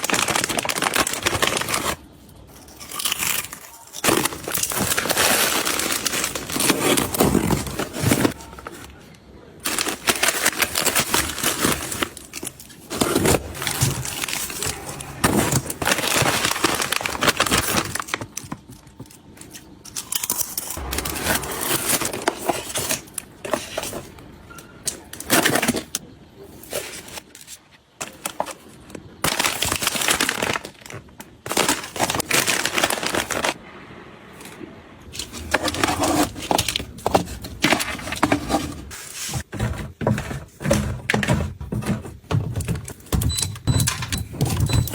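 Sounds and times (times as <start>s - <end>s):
plastic packaging crinkling: 0.0s - 24.2s, 24.8s - 33.6s, 35.1s - 44.9s.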